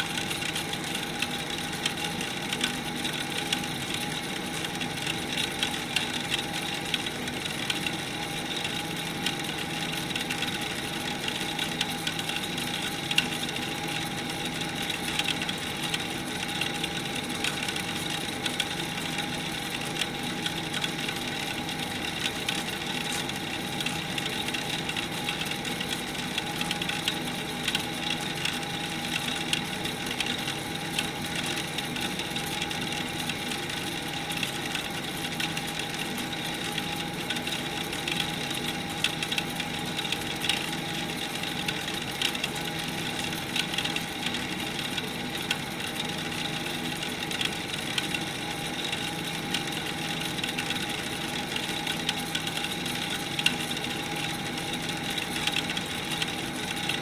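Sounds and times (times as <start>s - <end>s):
boiler mechanical hum: 0.0s - 57.0s
fine crackle of ticks: 0.0s - 57.0s.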